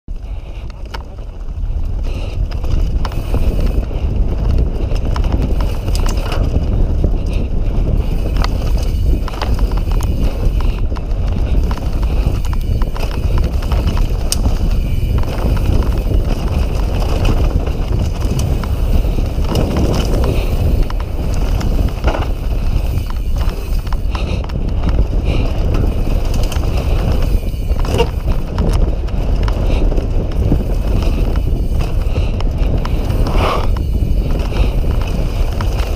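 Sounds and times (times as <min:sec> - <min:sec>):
bike rattling over bumps: 0:00.1 - 0:35.9
tyres and wind rumble: 0:00.1 - 0:35.9.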